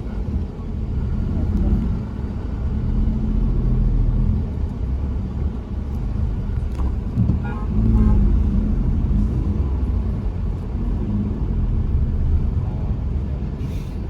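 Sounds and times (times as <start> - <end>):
low road rumble: 0.0 - 14.0
vehicle engine running: 0.0 - 14.0.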